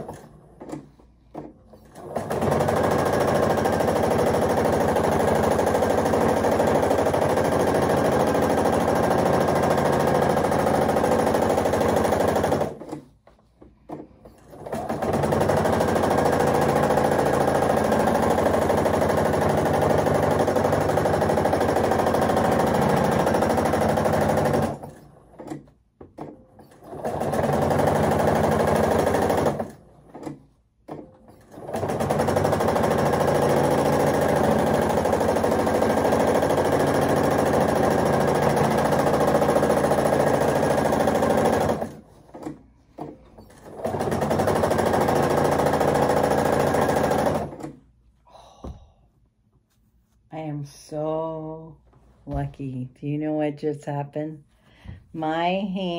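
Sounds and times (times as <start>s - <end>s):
sewing machine stitching: 0.0s - 47.9s.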